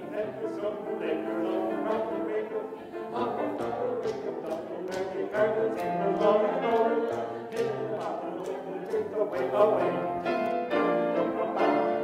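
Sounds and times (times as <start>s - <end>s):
mixed choir singing: 0.0s - 12.0s
piano accompaniment: 0.0s - 12.0s.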